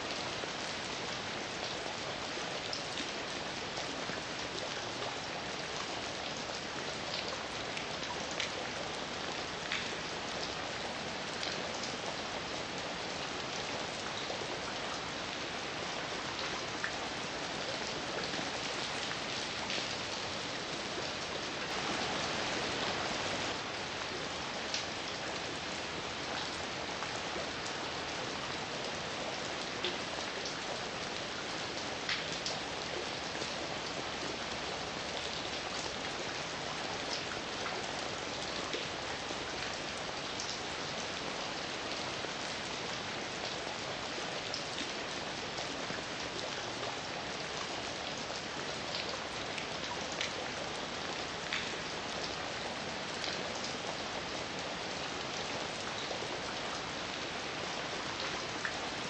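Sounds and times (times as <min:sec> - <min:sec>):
heavy rain falling: 0:00.2 - 0:59.0.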